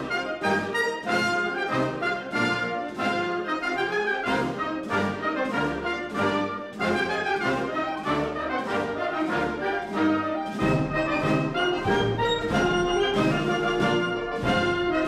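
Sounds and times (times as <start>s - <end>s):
brass instrumental music: 0.0s - 15.0s.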